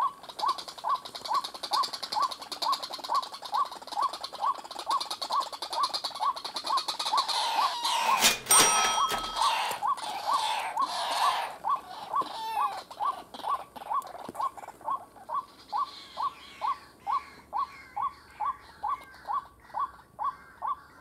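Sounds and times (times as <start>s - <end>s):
harsh bird calls: 0.0s - 21.0s
waterhen calling: 0.0s - 21.0s.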